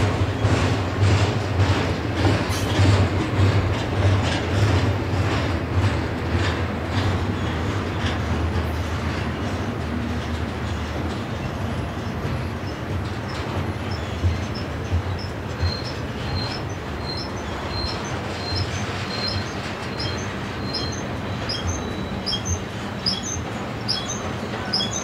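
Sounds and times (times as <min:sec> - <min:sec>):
clickety-clack of wheels: 0:00.0 - 0:25.0
train wheels rumbling on rail: 0:00.0 - 0:25.0.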